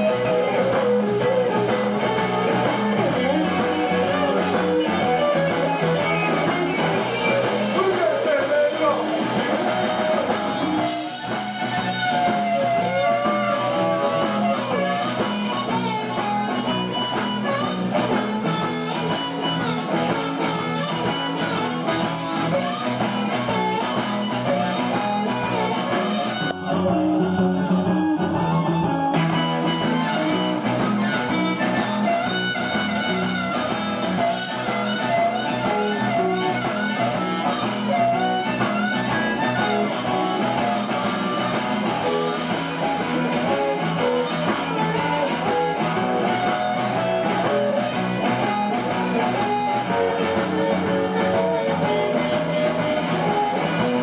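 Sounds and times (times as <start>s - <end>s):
bass guitar: 0.0s - 54.0s
drums: 0.0s - 54.0s
electric guitar lead: 0.0s - 54.0s
harmonica: 0.0s - 54.0s.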